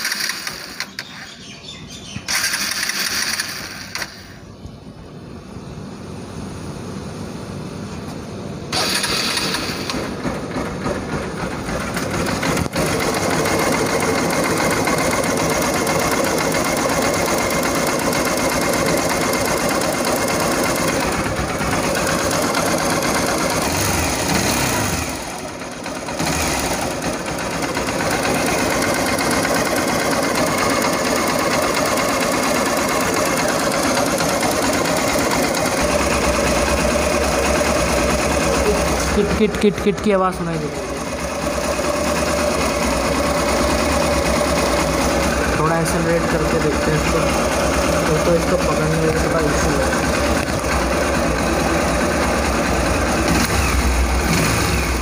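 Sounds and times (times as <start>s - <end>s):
motorcycle engine idling: 8.7s - 55.0s.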